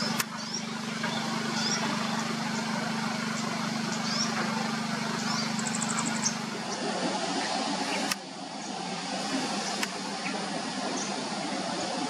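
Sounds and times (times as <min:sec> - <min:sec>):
constant hiss: 0:00.0 - 0:12.0
small birds chirping: 0:00.0 - 0:12.0
steady low hum: 0:00.0 - 0:12.0.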